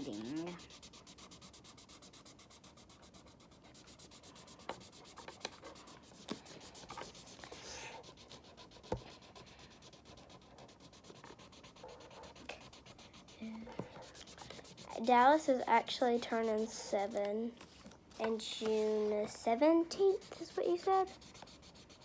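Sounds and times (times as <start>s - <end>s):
marker rubbing on paper: 0.0s - 17.3s, 18.5s - 22.0s.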